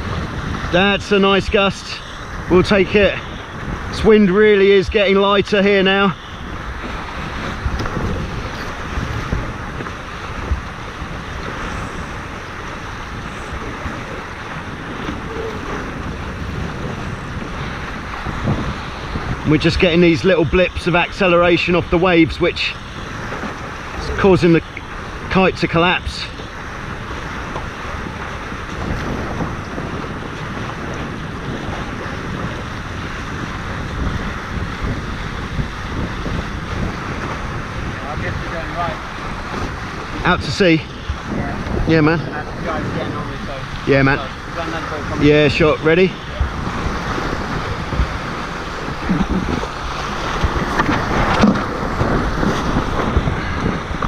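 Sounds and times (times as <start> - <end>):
water rushing along hulls: 0.0 - 54.0
wind buffeting microphone: 0.0 - 54.0.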